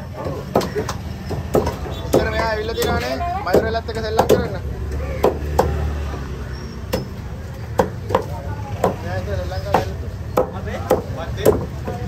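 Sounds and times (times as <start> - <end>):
cleaver chopping fish on wood: 0.1 - 5.9, 6.9 - 12.0.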